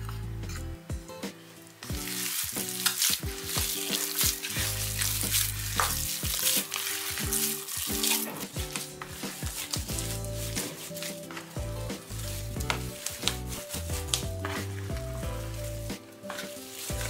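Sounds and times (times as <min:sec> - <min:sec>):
background music: 0:00.0 - 0:17.0
hands kneading crumbly paste: 0:01.9 - 0:17.0.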